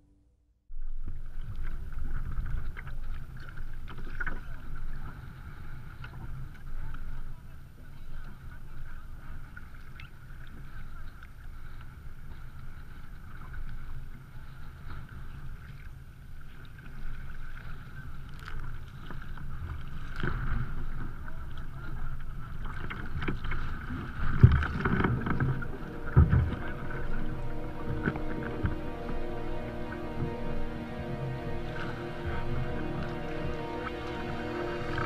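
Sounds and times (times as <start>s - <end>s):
water splashing along kayak hull: 0.8s - 35.0s.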